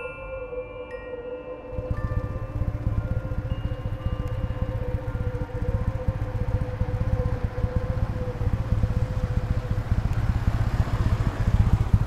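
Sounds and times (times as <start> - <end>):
vehicle engine throbbing: 1.7 - 12.0.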